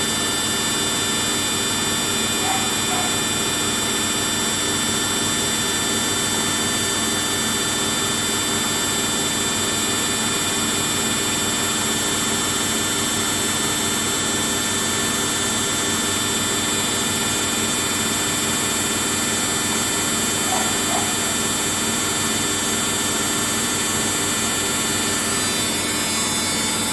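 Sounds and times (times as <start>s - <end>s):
washing machine spinning: 0.0s - 9.2s, 10.0s - 26.9s.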